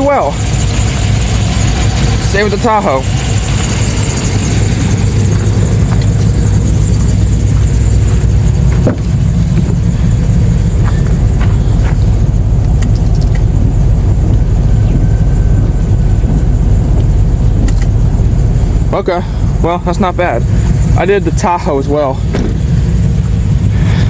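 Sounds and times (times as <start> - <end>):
pickup engine idling: 0.0 - 24.0.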